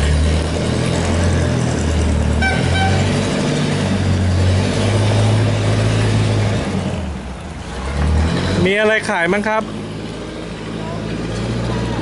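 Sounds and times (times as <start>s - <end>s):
engine running loudly: 0.0s - 12.0s.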